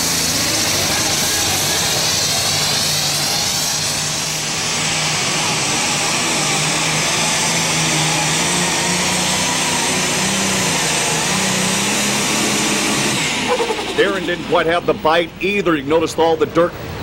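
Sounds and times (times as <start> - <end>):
diesel tractor engine at full power: 0.0 - 17.0.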